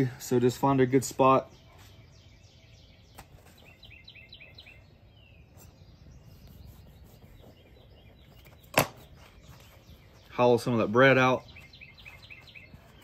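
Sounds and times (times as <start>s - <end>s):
small bird chirping: 0.7s - 13.0s.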